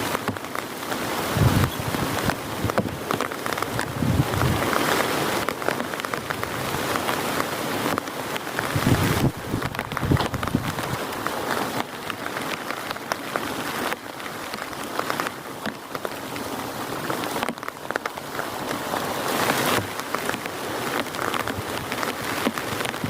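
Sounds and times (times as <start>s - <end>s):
heavy rain falling: 0.0s - 23.0s
raindrops striking close by: 0.0s - 23.0s.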